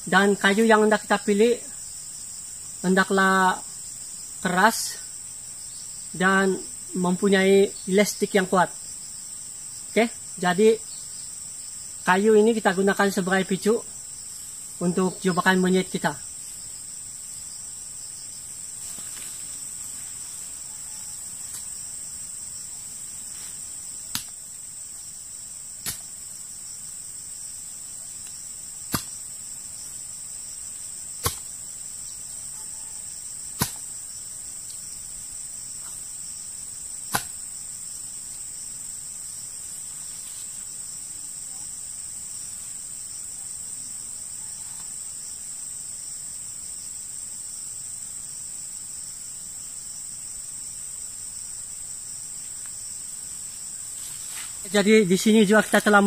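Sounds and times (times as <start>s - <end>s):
forest insects droning: 0.0s - 56.0s.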